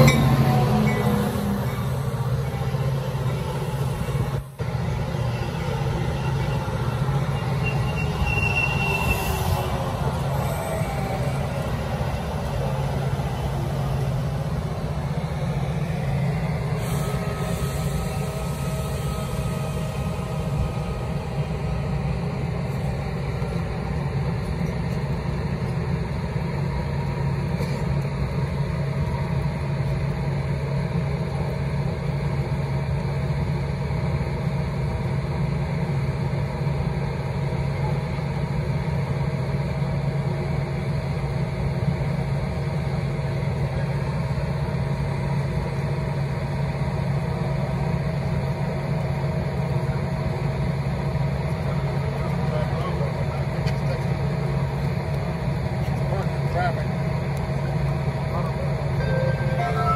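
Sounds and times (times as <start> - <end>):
diesel locomotive engine hum: 0.0 - 59.9.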